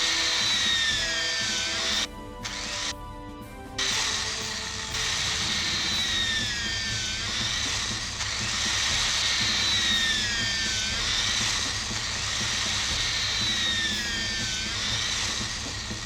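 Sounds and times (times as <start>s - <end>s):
machine hissing and whining: 0.0s - 3.1s, 3.7s - 16.0s.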